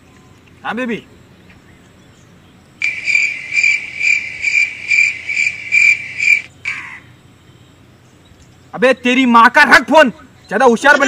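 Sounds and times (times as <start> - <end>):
cricket chirping: 0.0 - 9.6.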